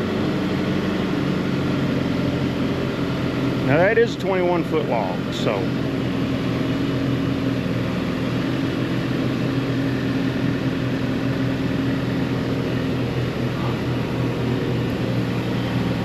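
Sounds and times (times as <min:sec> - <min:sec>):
sawmill motor humming: 0:00.0 - 0:16.0.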